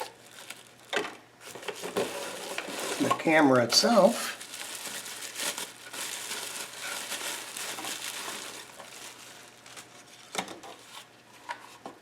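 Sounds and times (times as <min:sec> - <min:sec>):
packaging rustling and crinkling: 0:00.0 - 0:11.8.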